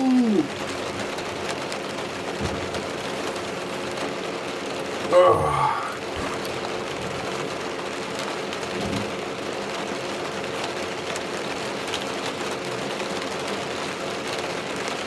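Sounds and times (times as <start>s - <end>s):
rain on camper roof: 0.0s - 15.0s.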